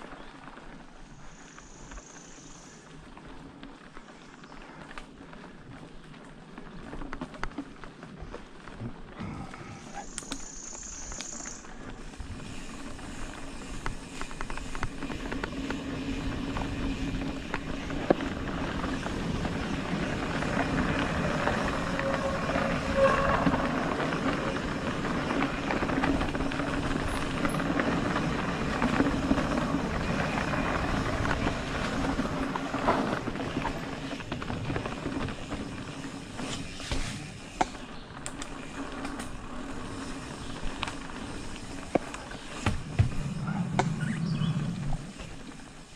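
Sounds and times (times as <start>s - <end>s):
bike rattling: 0.0s - 45.9s
bike tyres rolling over dirt: 0.0s - 45.9s.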